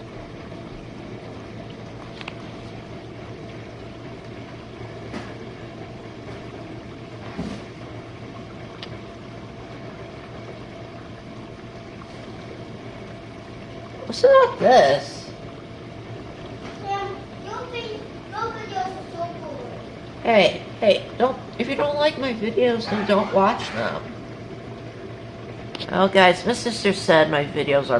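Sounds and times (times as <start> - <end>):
dishwasher humming: 0.0 - 27.9.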